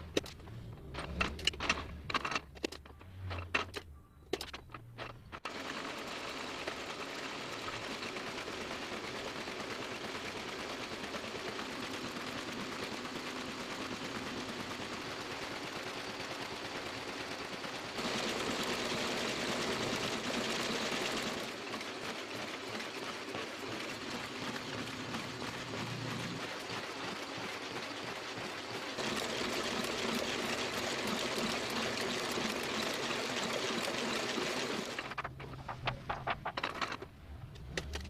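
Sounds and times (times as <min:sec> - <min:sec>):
printing press running: 0:05.4 - 0:37.0.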